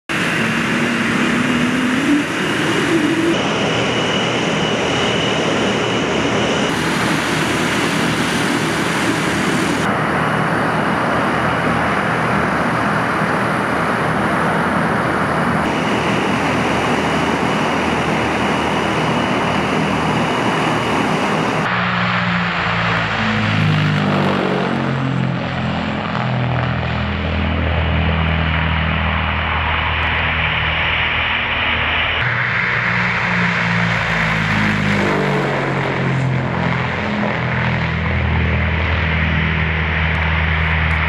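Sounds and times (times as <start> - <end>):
turboprop engines droning: 0.1 - 41.0.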